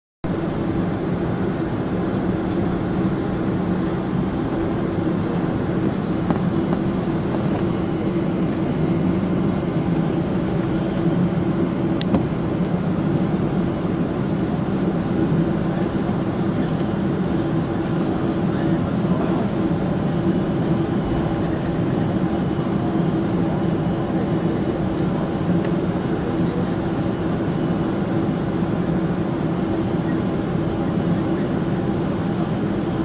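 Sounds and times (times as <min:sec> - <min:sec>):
jet engines rumbling: 0:00.2 - 0:33.0.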